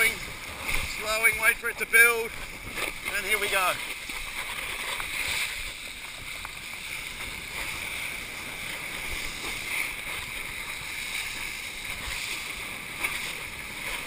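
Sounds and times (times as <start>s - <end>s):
water rushing under a board: 0.0s - 14.0s.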